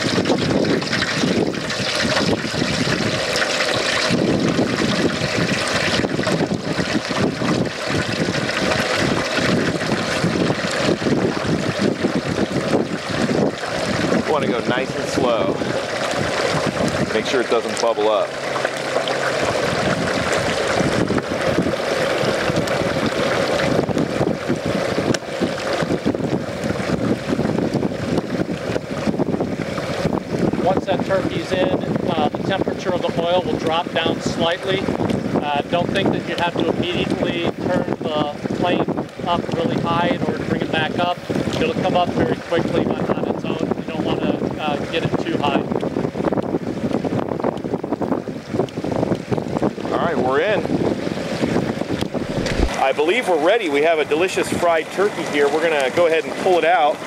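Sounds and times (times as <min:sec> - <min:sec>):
frying oil bubbling and popping: 0:00.0 - 0:57.0.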